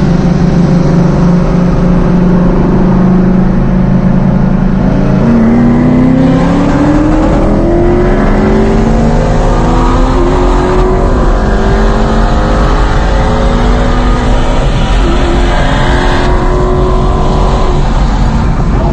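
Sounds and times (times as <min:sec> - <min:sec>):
car engine at full throttle: 0:00.0 - 0:18.9.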